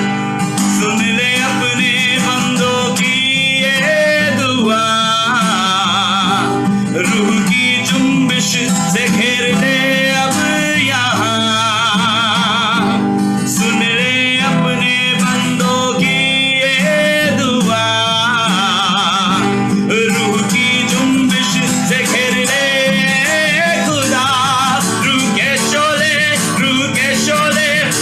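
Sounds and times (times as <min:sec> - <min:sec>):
person singing with vibrato: 0:00.6 - 0:28.0.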